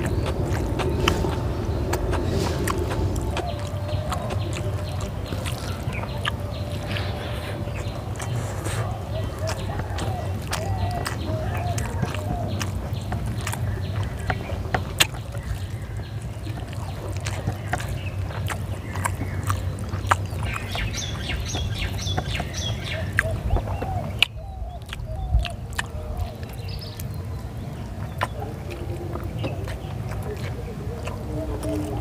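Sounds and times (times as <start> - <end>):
birds calling: 0.0 - 32.0
chewing and mouth smacks: 0.0 - 32.0.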